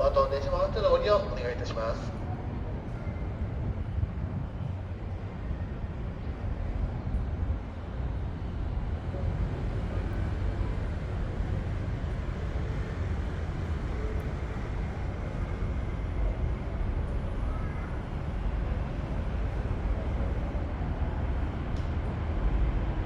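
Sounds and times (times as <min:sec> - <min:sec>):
train rumbling into station: 0:00.0 - 0:23.0.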